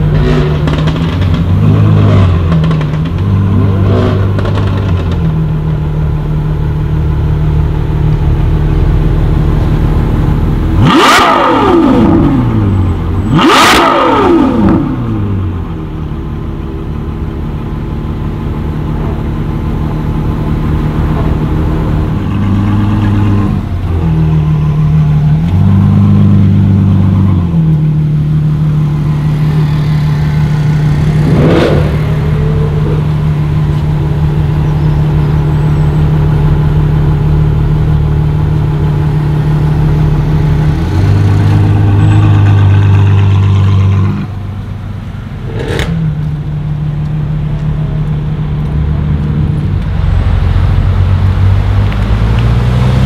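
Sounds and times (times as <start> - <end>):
car engine running: 0.0 - 52.7.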